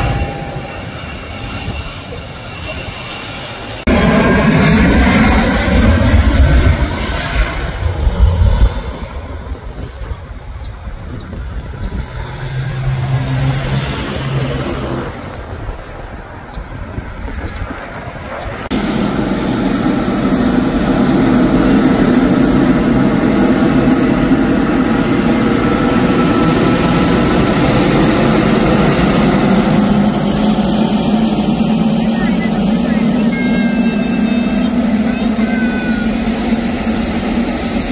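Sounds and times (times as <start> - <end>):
distant jet noise: 0.0 - 37.9
jet engines taxiing close by: 0.0 - 37.9.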